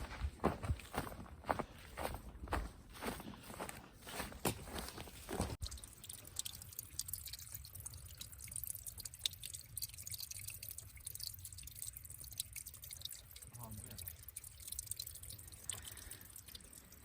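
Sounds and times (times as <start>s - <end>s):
water dripping: 3.0s - 17.0s.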